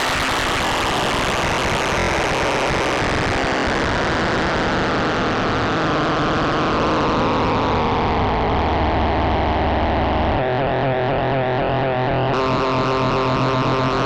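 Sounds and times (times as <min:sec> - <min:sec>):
buzzing synthesizer drone: 0:00.0 - 0:14.0.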